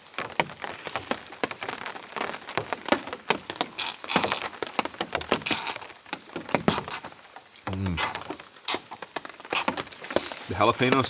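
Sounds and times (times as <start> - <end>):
heavy rain falling: 0.0 - 6.7, 7.4 - 11.0.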